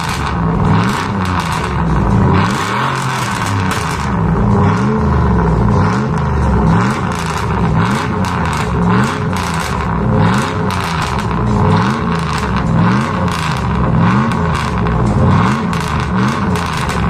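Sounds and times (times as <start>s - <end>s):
car engine revving in blips: 0.0s - 17.0s.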